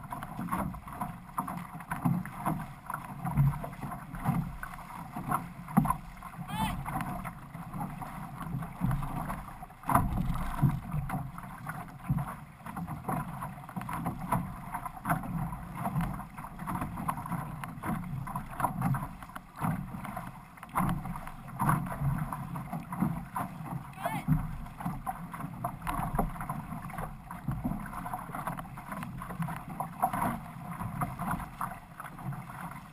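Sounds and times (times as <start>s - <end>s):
paddle strokes splashing: 0.0s - 32.9s
water rushing along canoe hull: 0.0s - 32.9s.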